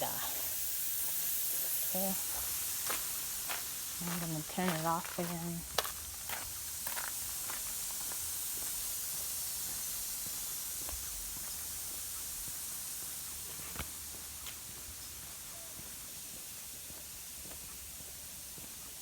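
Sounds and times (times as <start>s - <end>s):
lawn sprinkler hissing: 0.0s - 19.0s.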